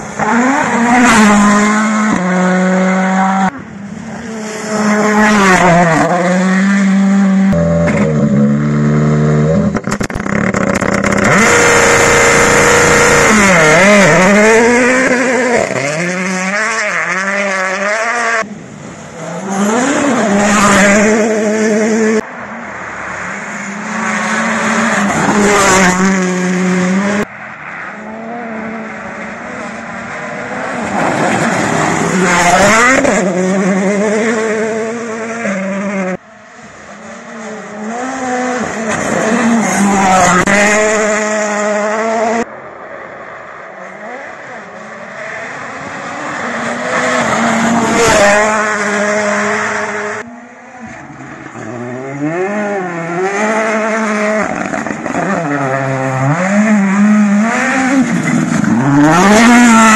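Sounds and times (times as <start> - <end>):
rally car engines revving: 0.0 - 42.5, 43.8 - 59.9.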